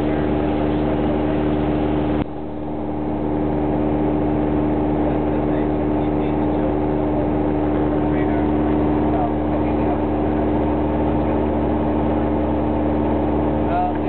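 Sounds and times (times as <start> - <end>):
aircraft engine and propeller: 0.0 - 14.0.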